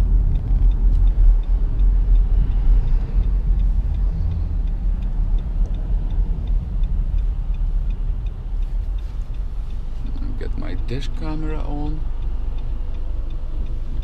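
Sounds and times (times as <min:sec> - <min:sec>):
road and engine rumble in car: 0:00.0 - 0:14.0
turn signal ticking: 0:00.0 - 0:14.0.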